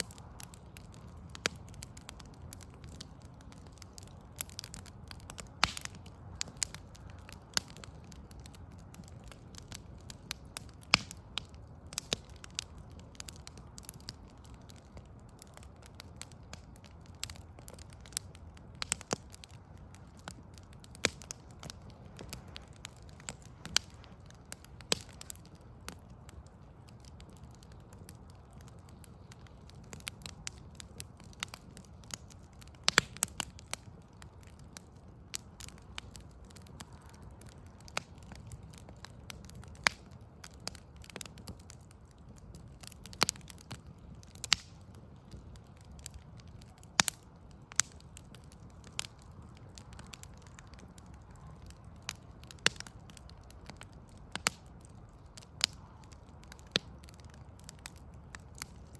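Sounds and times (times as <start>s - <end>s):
low fire rumble: 0.0s - 58.9s
wood fire crackling: 0.0s - 58.9s.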